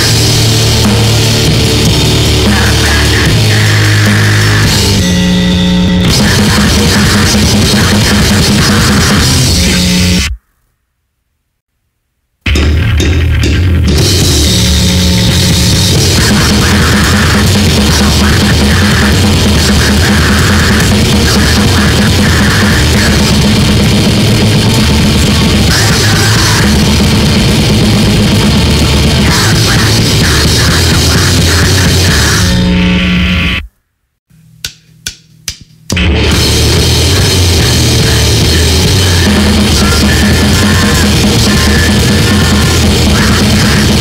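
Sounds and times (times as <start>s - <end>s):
loud dense grindcore band playing: 0.0s - 10.3s, 12.5s - 33.4s, 35.9s - 44.0s.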